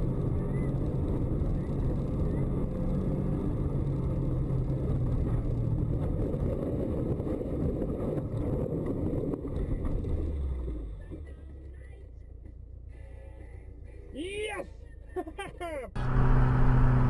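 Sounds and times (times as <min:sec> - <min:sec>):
car engine running: 0:00.0 - 0:17.0
rough road rumble: 0:00.0 - 0:17.0.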